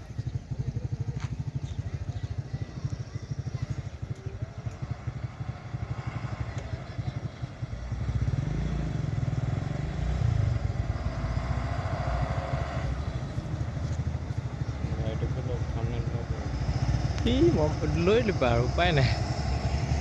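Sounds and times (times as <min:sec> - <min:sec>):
motor vehicle engine throbbing: 0:00.0 - 0:20.0.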